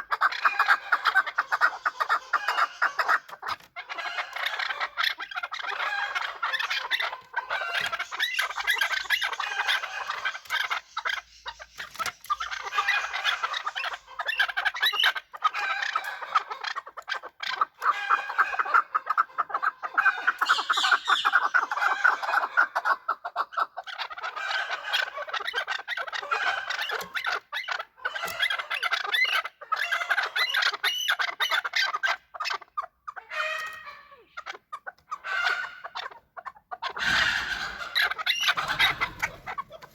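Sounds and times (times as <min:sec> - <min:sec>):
partridges calling: 0:00.0 - 0:39.9.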